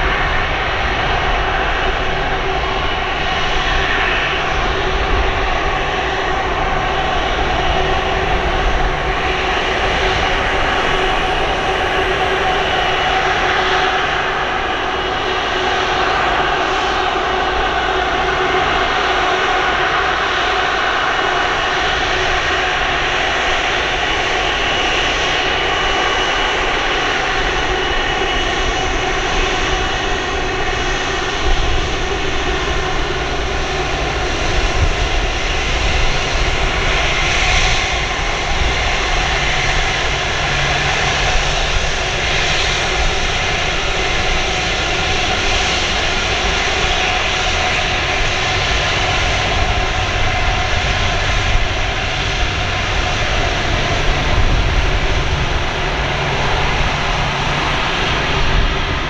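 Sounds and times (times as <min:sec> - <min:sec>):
jet engines whining at low power: 0:00.0 - 0:59.0.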